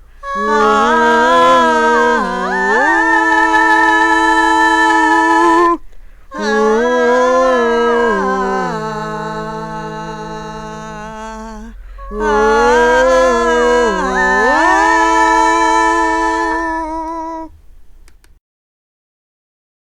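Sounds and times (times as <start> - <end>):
woman humming long notes: 0.0 - 17.6.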